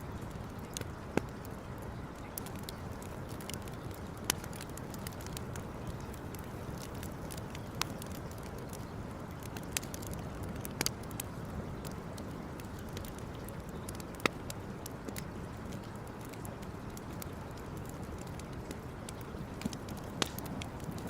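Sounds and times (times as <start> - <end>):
campfire crackling: 0.0 - 21.0
fire popping: 0.0 - 21.0.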